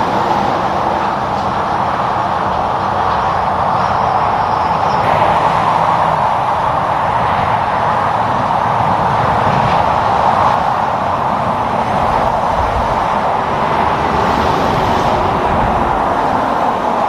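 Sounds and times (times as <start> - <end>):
highway traffic road noise: 0.0 - 17.0.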